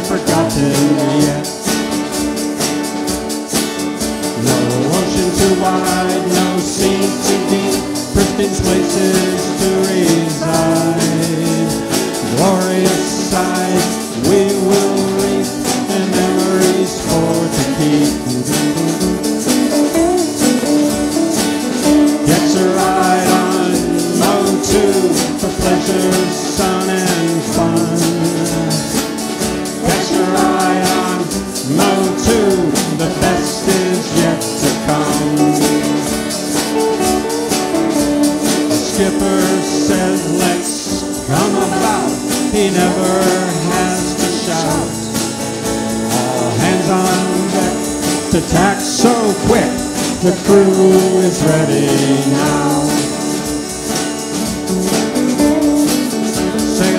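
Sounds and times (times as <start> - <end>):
person singing: 0.0 - 2.0, 4.2 - 56.9
band playing a song: 0.0 - 56.9
tambourine: 0.0 - 56.9.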